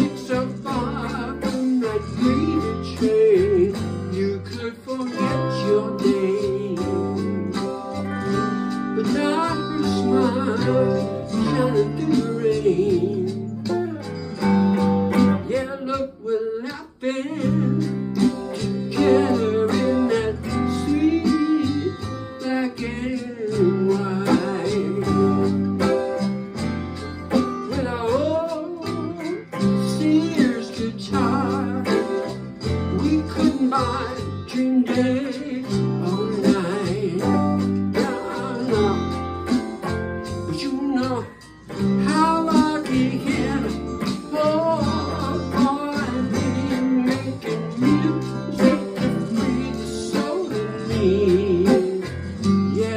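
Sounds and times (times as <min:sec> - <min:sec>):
man singing: 0:00.0 - 0:26.4, 0:27.3 - 0:52.9
bass guitar: 0:00.0 - 0:52.9
electric guitar: 0:00.0 - 0:52.9.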